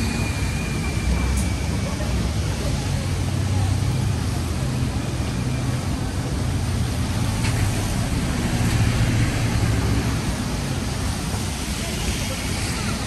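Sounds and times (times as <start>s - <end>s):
city street traffic hiss: 0.0s - 13.0s.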